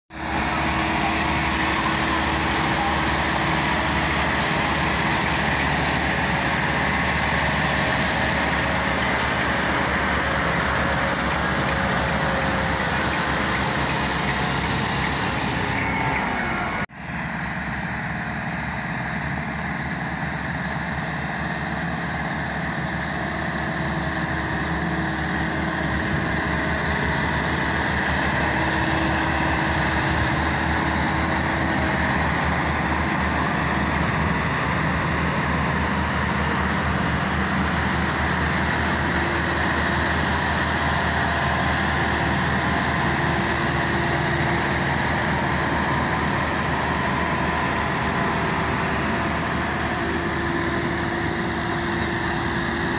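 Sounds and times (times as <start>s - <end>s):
tractor diesel engines under load: 0.1s - 52.9s.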